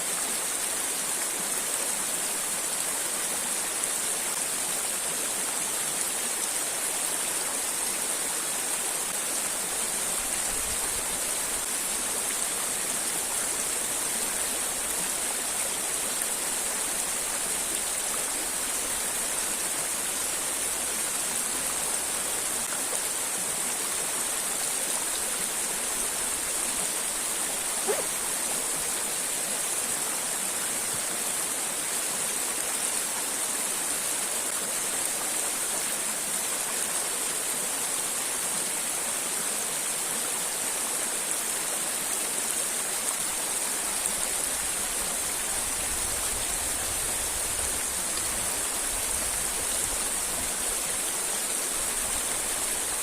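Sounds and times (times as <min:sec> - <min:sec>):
river and waterfall rushing: 0:00.0 - 0:53.0.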